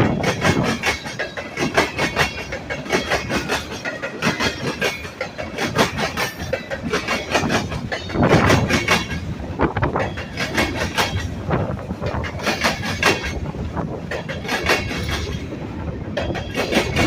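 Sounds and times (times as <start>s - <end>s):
train wheels clacking over rail joints: 0.0s - 17.0s.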